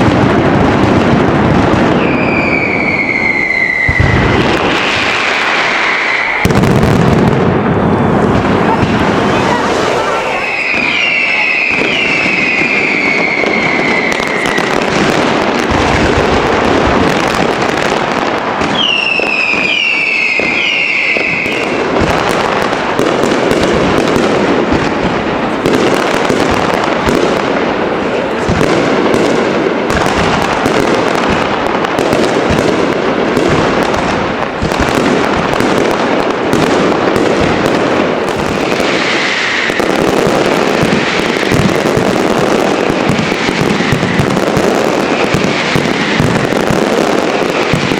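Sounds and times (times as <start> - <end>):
fireworks crackling and banging: 0.0 - 47.9
whistling fireworks: 0.0 - 47.9.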